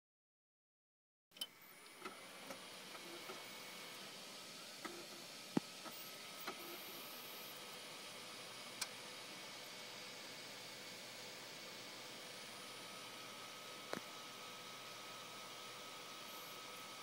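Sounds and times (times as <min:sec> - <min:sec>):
computer whirring hiss: 0:01.4 - 0:17.0.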